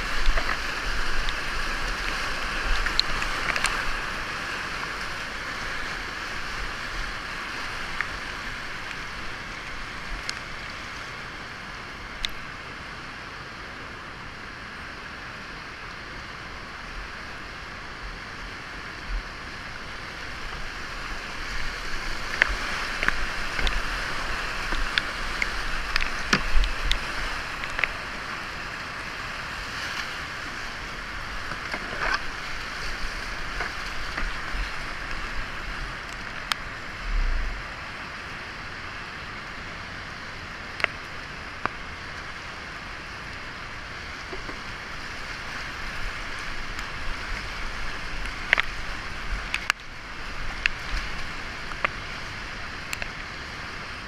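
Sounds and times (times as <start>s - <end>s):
paddle splashes and ticks on boat: 0.0s - 12.6s, 18.2s - 37.0s, 39.8s - 54.0s
whitewater rapids rushing: 0.0s - 54.0s.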